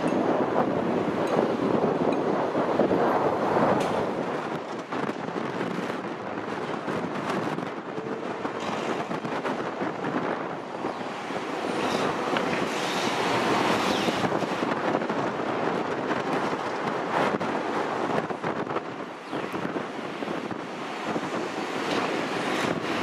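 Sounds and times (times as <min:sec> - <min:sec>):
jet engines rushing: 0:00.0 - 0:23.0
wind buffeting microphone: 0:00.0 - 0:23.0.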